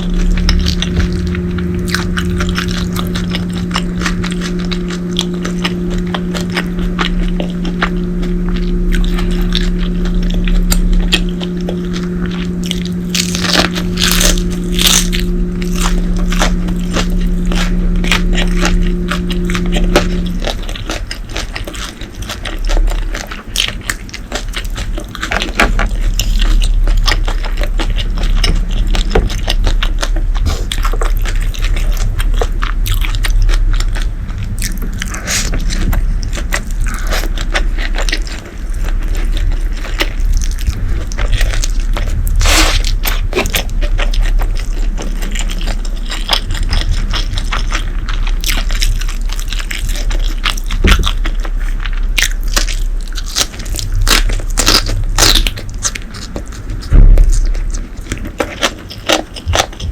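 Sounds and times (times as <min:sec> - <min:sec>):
crunchy chewing and biting: 0:00.0 - 0:59.9.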